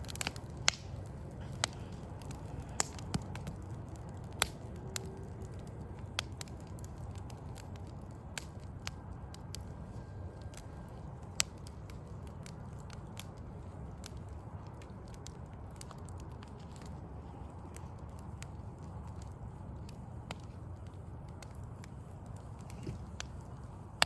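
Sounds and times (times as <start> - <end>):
burning logs popping: 0.0 - 24.0
low city rumble: 0.0 - 24.0
wood fire crackling: 0.0 - 24.0.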